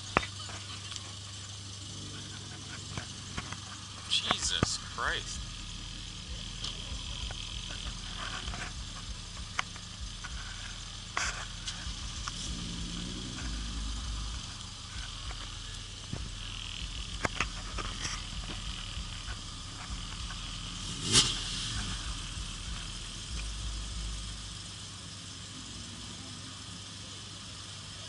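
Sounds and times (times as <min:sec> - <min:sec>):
low engine hum: 0:00.0 - 0:28.0.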